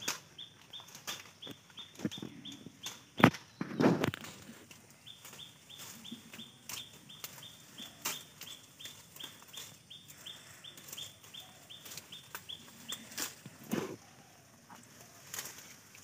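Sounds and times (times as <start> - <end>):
bird calling: 0.0 - 15.7
rustle and snap of bushes: 0.0 - 16.0.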